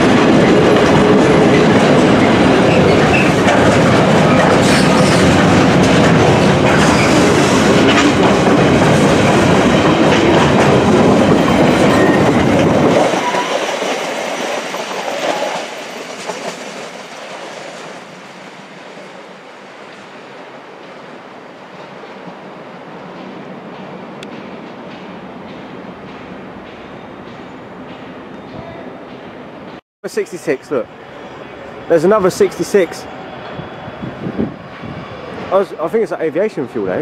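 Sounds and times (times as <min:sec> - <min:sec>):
freight train passing: 0:00.0 - 0:37.0.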